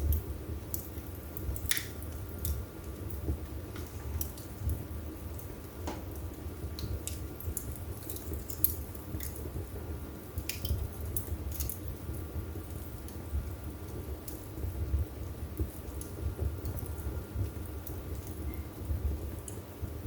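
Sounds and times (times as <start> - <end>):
logs crackling and popping: 0.0 - 19.7
low rumble of flames: 0.0 - 20.0.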